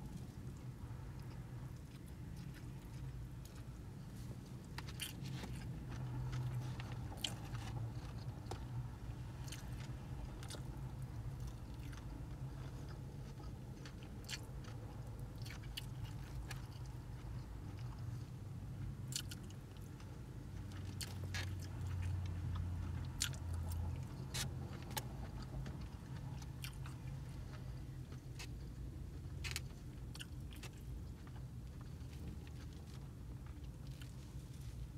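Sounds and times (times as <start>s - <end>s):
low steady hum: 0.0s - 34.9s
person chewing food: 0.0s - 34.9s.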